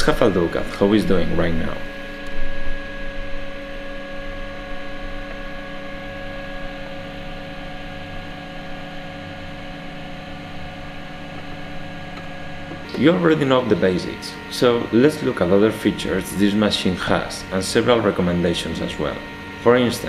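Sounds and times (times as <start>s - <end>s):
machine hum with held tones: 0.0s - 20.0s.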